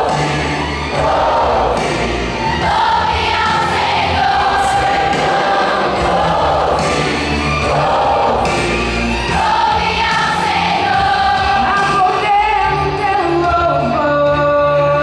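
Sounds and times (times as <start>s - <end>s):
choir singing gospel song: 0.0s - 12.4s
steady bass accompaniment: 0.0s - 15.0s.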